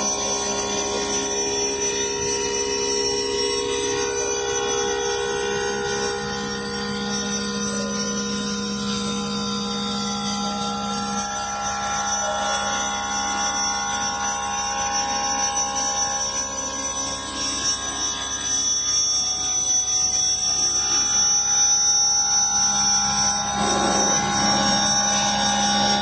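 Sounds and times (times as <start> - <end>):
machine spindle whine: 0.0 - 26.0.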